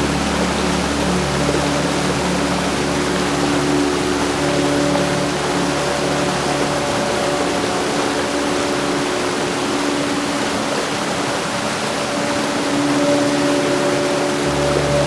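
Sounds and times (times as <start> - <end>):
faint low tones: 0.0 - 15.0
heavy rain: 0.0 - 15.0.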